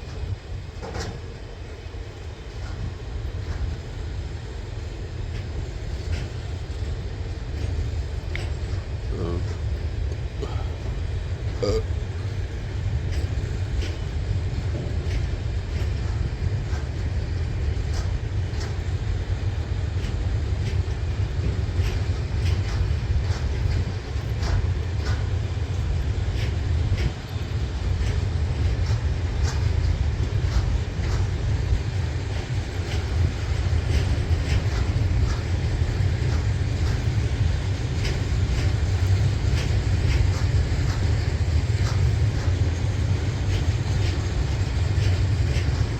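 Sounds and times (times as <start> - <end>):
train rumbling on rails: 0.0 - 45.9
wheels clattering on track: 0.0 - 45.9.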